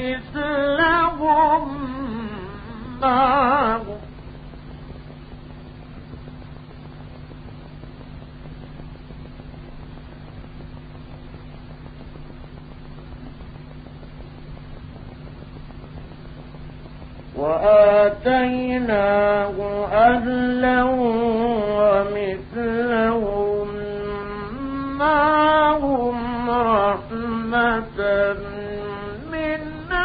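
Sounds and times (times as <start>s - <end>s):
faint hiss: 0.0s - 30.0s
steady low hum: 0.0s - 30.0s.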